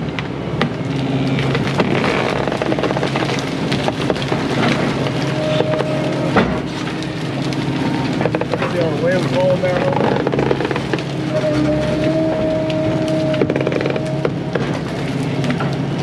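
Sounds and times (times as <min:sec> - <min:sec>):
branches cracking and snapping: 0:00.0 - 0:16.0
excavator diesel engine running: 0:00.0 - 0:16.0.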